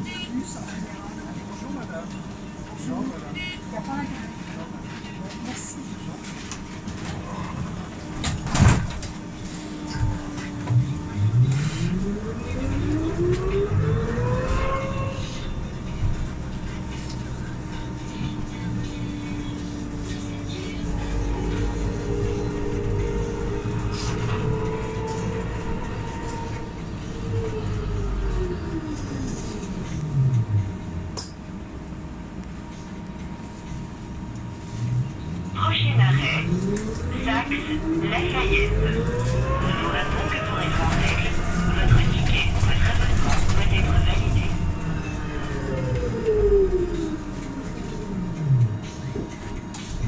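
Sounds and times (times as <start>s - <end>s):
low running rumble: 6.1s - 50.0s
low hum: 6.4s - 50.0s.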